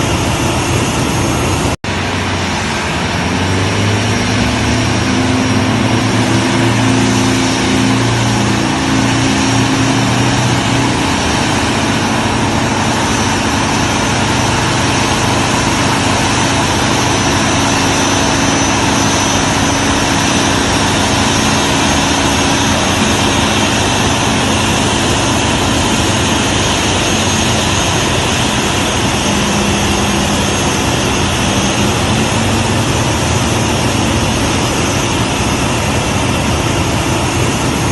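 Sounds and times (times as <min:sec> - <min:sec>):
aircraft engines rushing: 0:00.0 - 0:37.9
low engine hum: 0:00.0 - 0:37.9.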